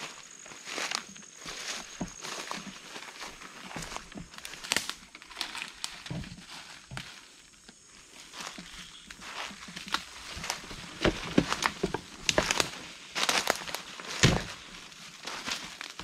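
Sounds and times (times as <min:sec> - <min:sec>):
brushing past undergrowth: 0:00.0 - 0:16.0
footsteps crunching dry leaves: 0:00.0 - 0:16.0.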